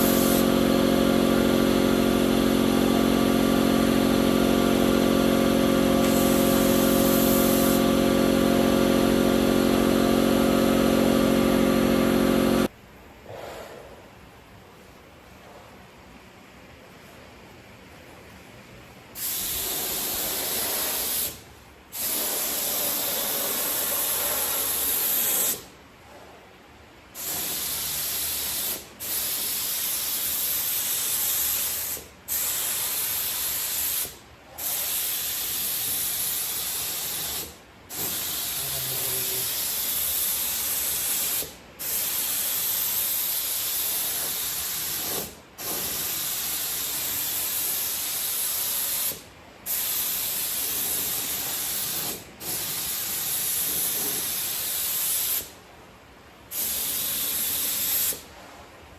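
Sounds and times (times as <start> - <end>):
air spray gun hissing: 0.0 - 12.7, 19.2 - 25.7, 27.2 - 55.6, 56.5 - 58.3.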